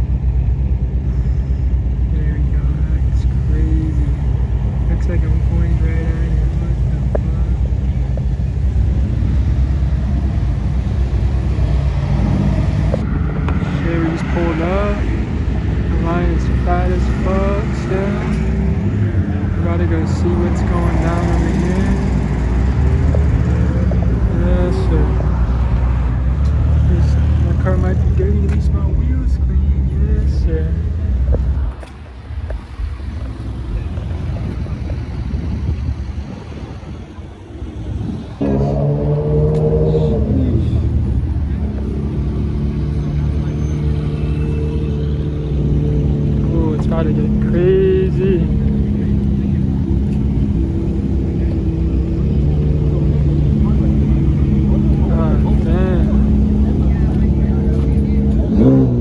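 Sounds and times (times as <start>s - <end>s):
car engines rumbling: 0.0s - 59.0s
road traffic: 0.0s - 59.0s.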